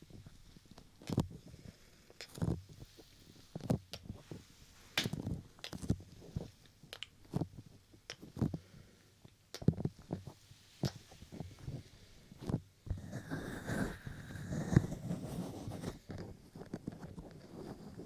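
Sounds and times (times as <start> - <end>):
soft pops and rustles: 2.1 - 8.6, 9.2 - 18.0.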